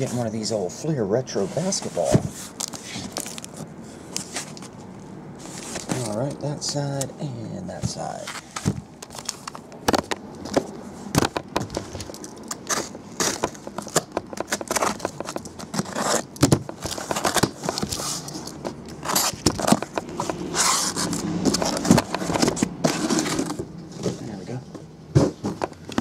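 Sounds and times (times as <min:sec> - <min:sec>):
boxes being handled: 0:00.0 - 0:26.0.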